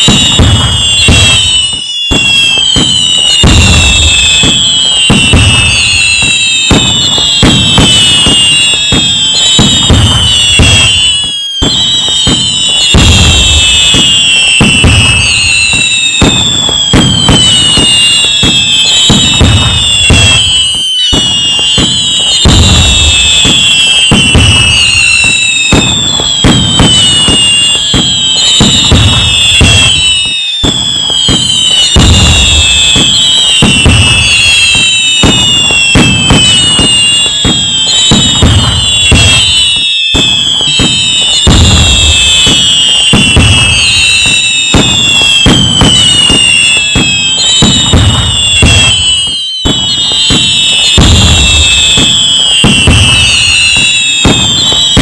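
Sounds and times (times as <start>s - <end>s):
firework booms: 0.0s - 55.0s
firework crackling: 0.0s - 55.0s
whistling fireworks: 0.0s - 55.0s.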